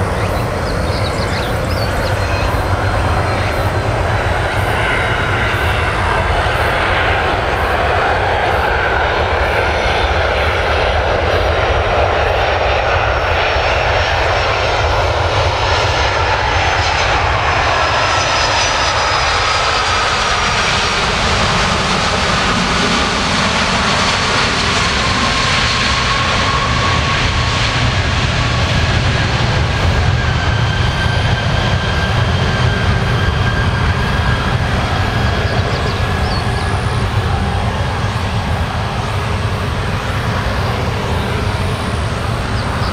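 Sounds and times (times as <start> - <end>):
jet engines in reverse thrust: 0.0 - 42.9.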